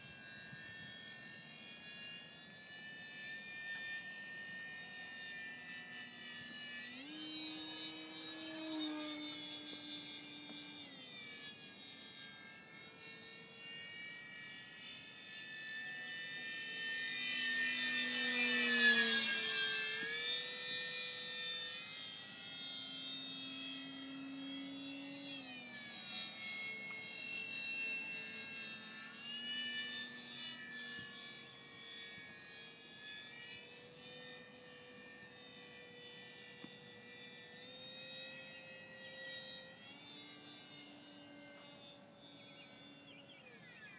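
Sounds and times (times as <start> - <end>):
model plane motor whining: 0.0 - 43.9.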